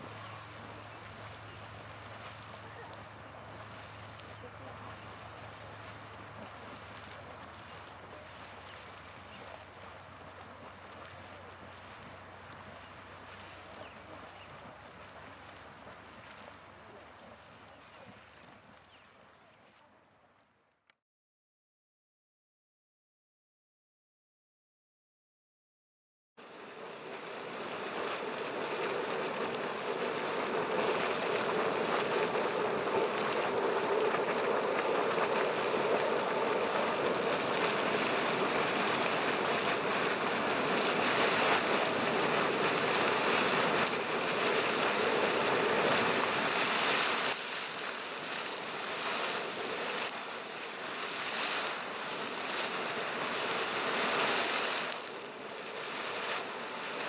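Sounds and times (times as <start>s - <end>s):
geyser water surging and splashing: 0.0s - 19.0s, 26.4s - 57.0s.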